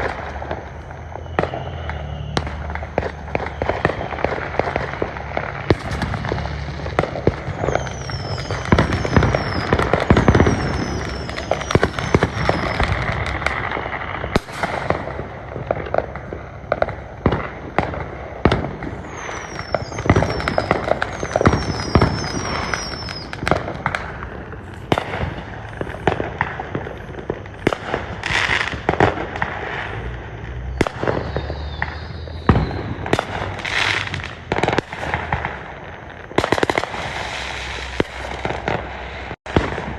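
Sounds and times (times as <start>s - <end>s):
falling firework whistles: 0.0s - 39.9s
fireworks bangs and crackling: 0.0s - 39.9s.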